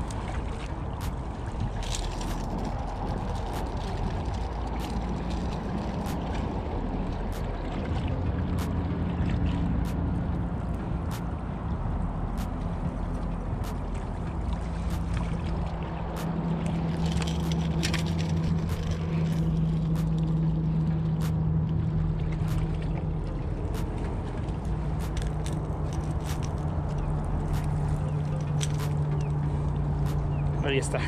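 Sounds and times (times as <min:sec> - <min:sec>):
low motor-like drone: 0:00.0 - 0:31.0.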